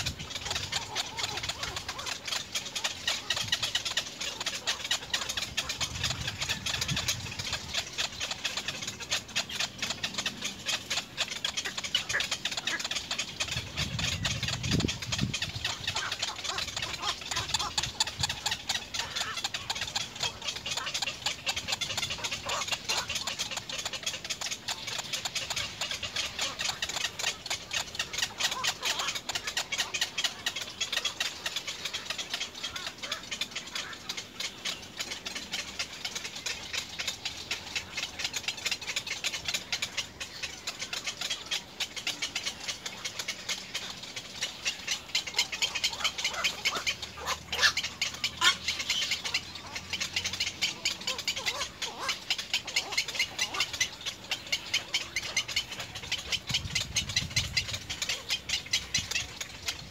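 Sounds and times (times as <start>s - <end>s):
bird chicks clicking chatter: 0.0s - 59.9s
bird chicks squealing calls: 0.0s - 59.9s.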